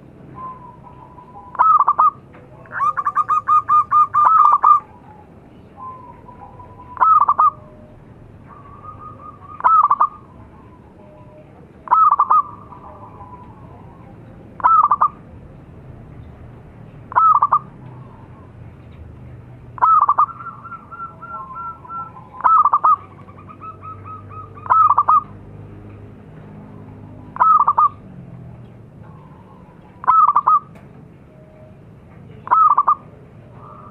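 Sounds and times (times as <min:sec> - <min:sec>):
dove cooing song: 0:00.0 - 0:15.3, 0:17.1 - 0:19.0, 0:19.6 - 0:25.5, 0:26.3 - 0:33.9.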